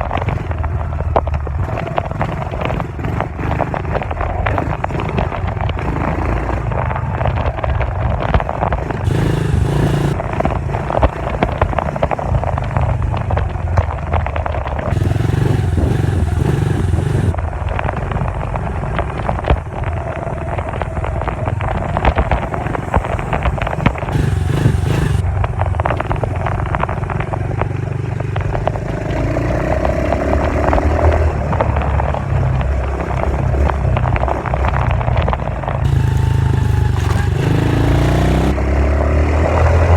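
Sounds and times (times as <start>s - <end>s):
clatter and rattle: 0.0s - 38.6s
dirt bike engine running: 0.0s - 39.9s.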